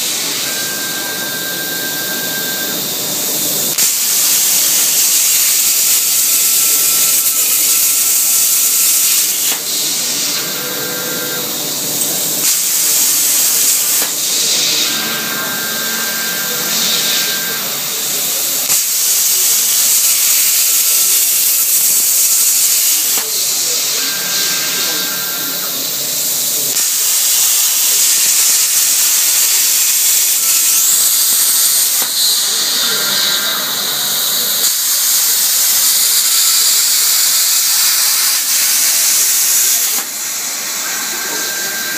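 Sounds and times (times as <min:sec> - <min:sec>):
plasma cutter hissing: 0:00.0 - 0:41.9.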